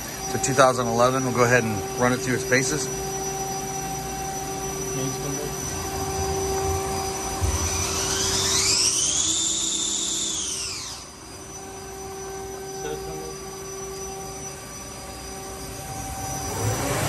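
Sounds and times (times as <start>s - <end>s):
machine spindle whining: 0.0s - 17.0s
steady machine hum: 0.0s - 17.0s.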